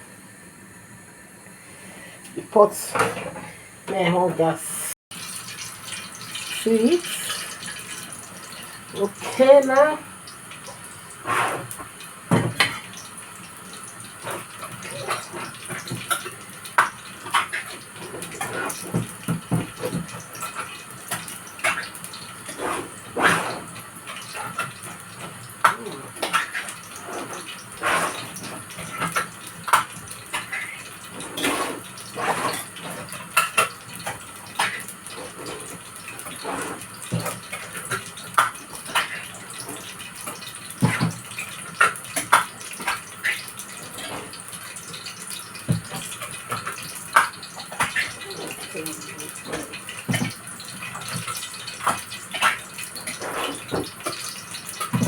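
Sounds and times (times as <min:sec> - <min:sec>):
hot oil sizzling in a pot: 0:05.1 - 0:55.0.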